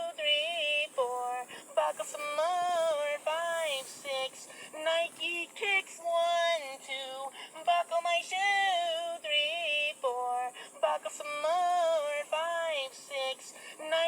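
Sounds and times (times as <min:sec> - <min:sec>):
processed high singing voice: 0:00.0 - 0:14.0.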